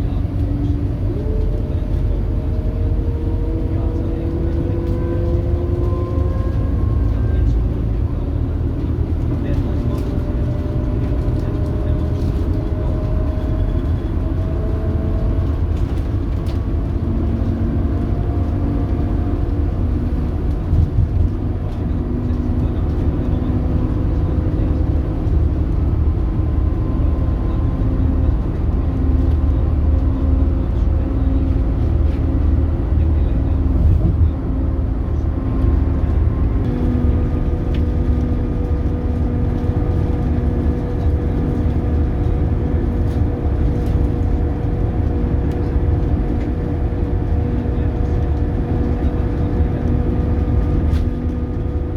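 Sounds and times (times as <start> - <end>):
bus diesel engine rumble: 0.0 - 51.9.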